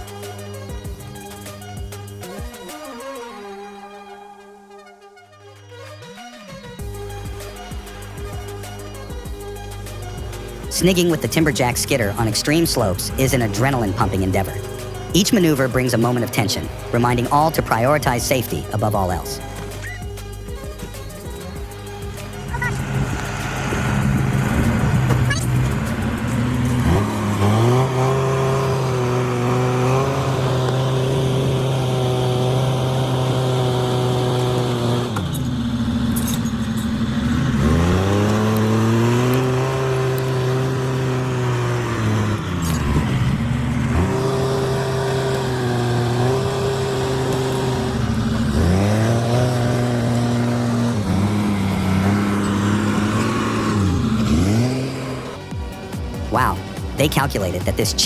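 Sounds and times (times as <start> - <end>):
diesel engine revving: 0.0 - 2.8, 6.8 - 58.0.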